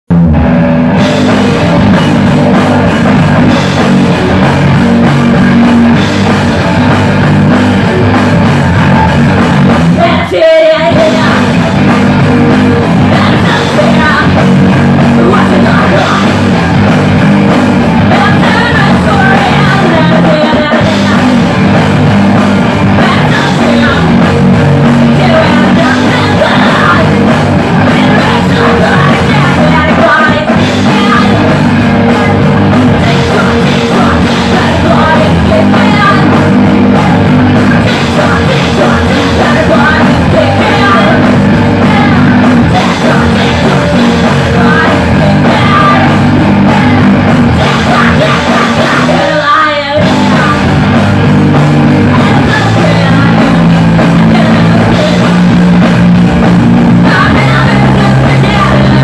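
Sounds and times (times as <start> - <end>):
rock band playing loudly: 0.1 - 59.0
person singing: 1.0 - 59.0.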